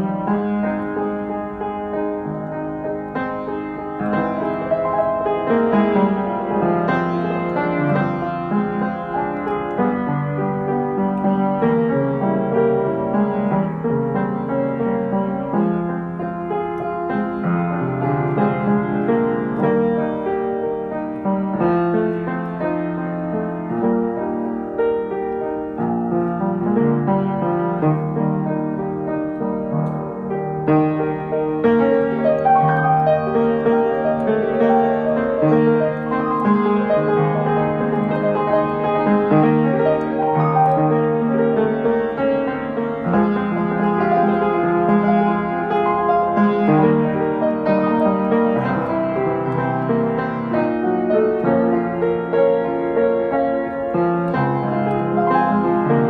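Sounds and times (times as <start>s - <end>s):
slow piano music: 0.0s - 56.0s.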